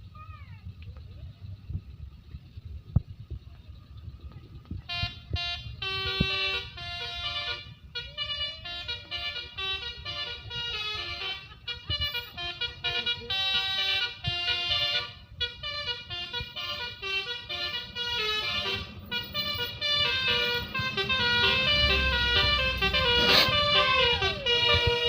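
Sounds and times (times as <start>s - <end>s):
low traffic rumble: 0.0s - 25.0s
musical air horn melody: 4.9s - 25.0s.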